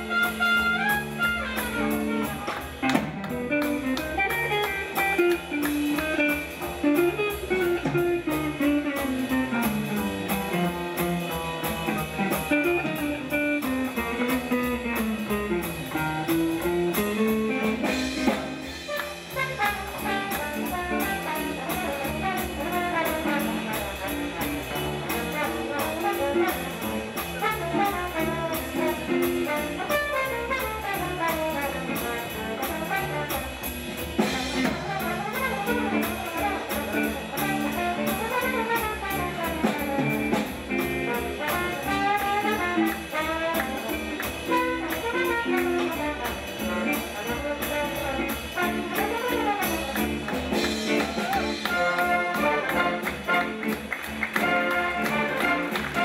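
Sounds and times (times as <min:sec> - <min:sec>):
swing big band playing jazz: 0:00.0 - 0:56.0.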